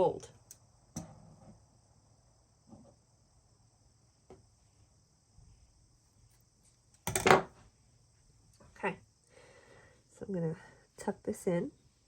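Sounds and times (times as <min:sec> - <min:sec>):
faint high-pitched hiss: 0:00.0 - 0:12.0.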